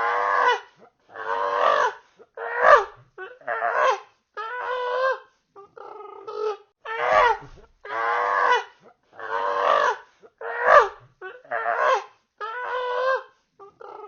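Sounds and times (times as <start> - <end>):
monkey cries: 0.0 - 14.0.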